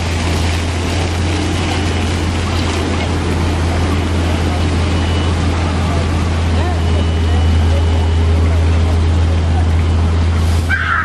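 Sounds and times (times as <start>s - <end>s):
fountain jets hissing: 0.0s - 11.0s.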